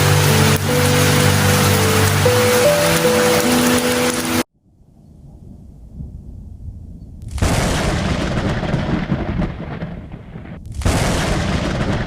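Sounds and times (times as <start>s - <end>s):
thunder rumbling and cracking: 0.0s - 12.0s.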